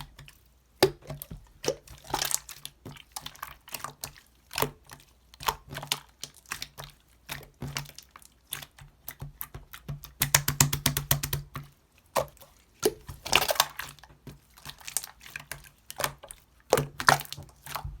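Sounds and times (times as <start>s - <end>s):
slime squishing with sticky clicks: 0.0s - 18.0s.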